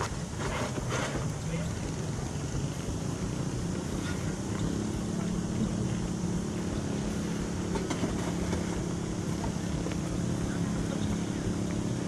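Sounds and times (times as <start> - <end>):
constant low hum: 0.0 - 12.0
steam traction engine running: 0.0 - 12.0
rush of fan air: 0.2 - 12.0.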